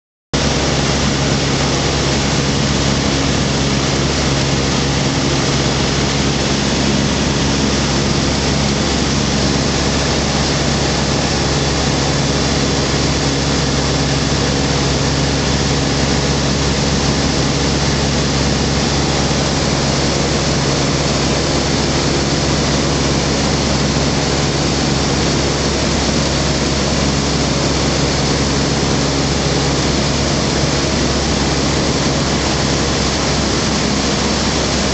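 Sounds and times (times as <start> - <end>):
aircraft engine and propeller droning: 0.4 - 34.9
rush of airflow: 0.4 - 34.9.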